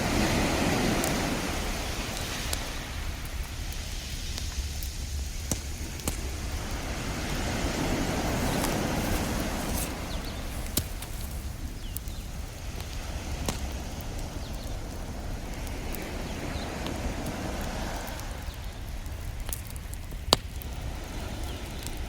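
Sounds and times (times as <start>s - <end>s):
ocean waves washing: 0.0s - 19.7s, 20.7s - 22.0s
campfire crackling and popping: 0.0s - 22.0s.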